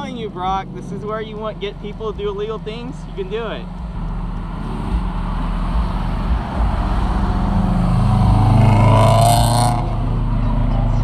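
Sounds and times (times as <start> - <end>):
car accelerating hard: 0.0 - 11.0
cars driving past: 0.0 - 11.0.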